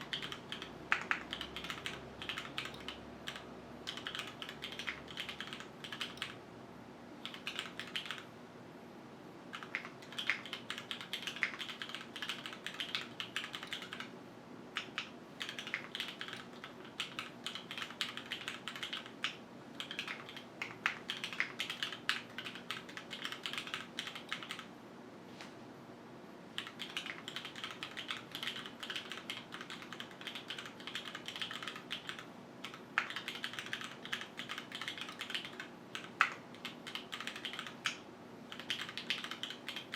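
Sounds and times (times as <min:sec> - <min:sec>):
mechanical keyboard typing: 0:00.0 - 0:06.4, 0:07.2 - 0:08.3, 0:09.5 - 0:14.1, 0:14.8 - 0:24.7, 0:26.6 - 0:39.9.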